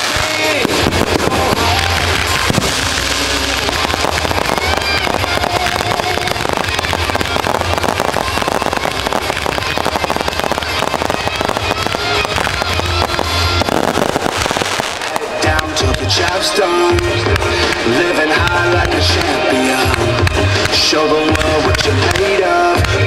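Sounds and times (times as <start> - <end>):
firework bangs: 0.0 - 23.0
fireworks popping and crackling: 0.0 - 23.0
music: 0.0 - 23.0.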